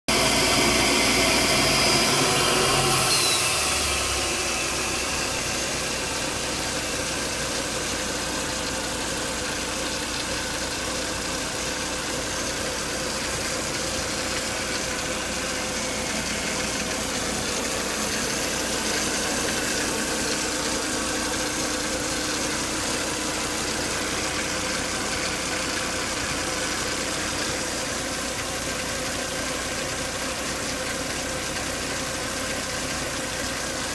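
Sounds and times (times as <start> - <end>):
car engine running with whine: 0.0 - 33.9.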